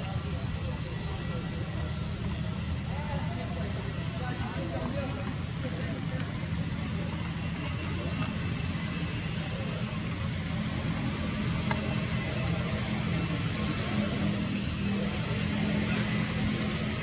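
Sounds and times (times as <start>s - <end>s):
low mechanical hum with hiss: 0.0s - 17.0s.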